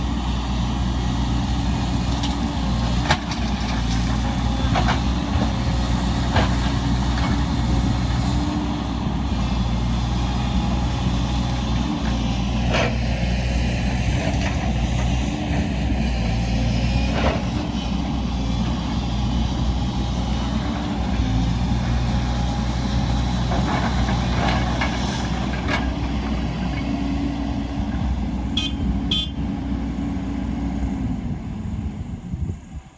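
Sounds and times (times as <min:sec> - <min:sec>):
heavy diesel machinery engine drone: 0:00.0 - 0:32.9.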